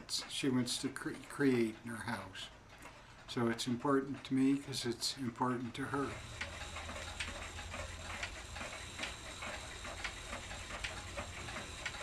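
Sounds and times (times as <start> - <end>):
mechanical clocks ticking: 0.0 - 12.0.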